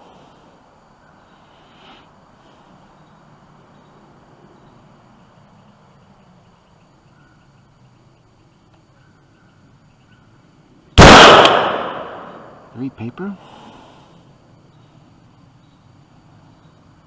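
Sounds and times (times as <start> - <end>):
faint noise haze: 0.0 - 17.0.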